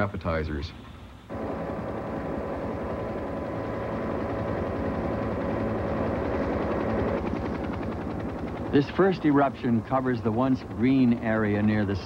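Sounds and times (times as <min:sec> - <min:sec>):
helicopter engine whine: 0:01.3 - 0:12.0
helicopter rotor beating: 0:01.3 - 0:12.0.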